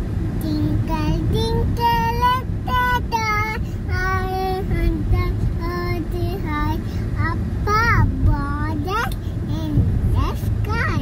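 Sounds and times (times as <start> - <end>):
car cabin rumble: 0.0 - 11.0
girl singing: 0.4 - 11.0.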